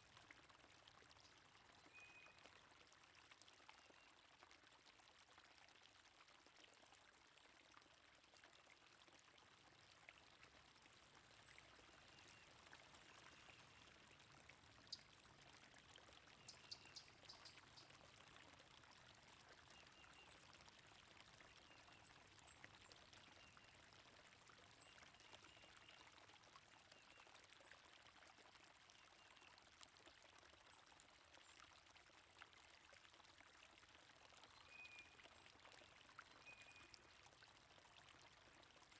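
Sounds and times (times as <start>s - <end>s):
stream running water: 0.0s - 38.9s.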